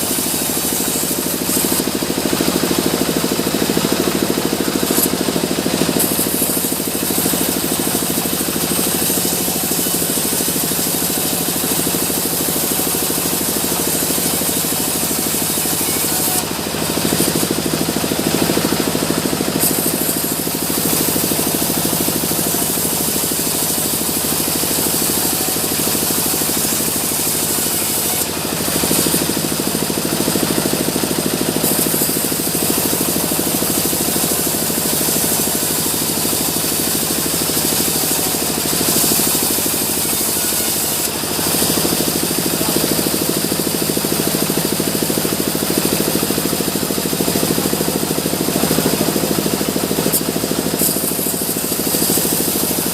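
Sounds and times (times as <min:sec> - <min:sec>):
sawmill saw cutting wood: 0:00.0 - 0:52.9.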